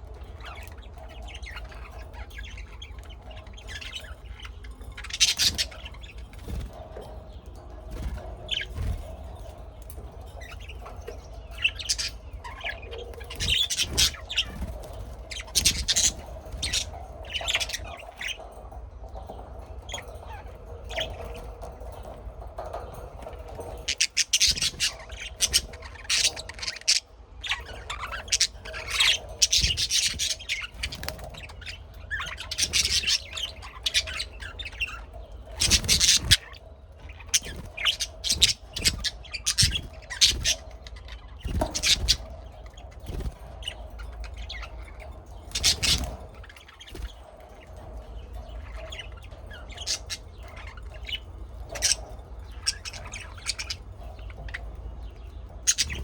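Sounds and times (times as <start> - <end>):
birds chirping and calling: 0.0 - 56.0.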